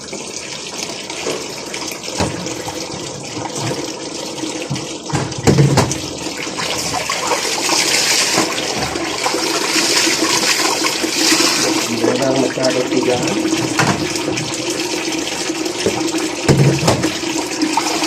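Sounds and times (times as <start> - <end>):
water sloshing in washing machine: 0.0 - 18.0.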